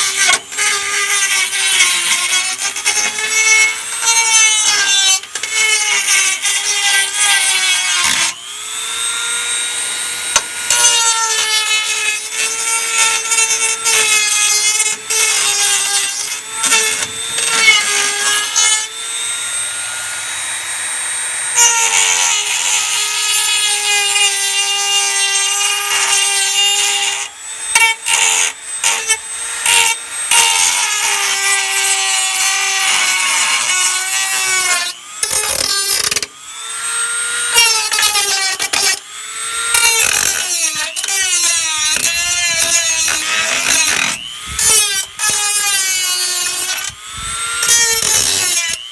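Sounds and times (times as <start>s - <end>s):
electric grinder grinding: 0.0s - 48.9s.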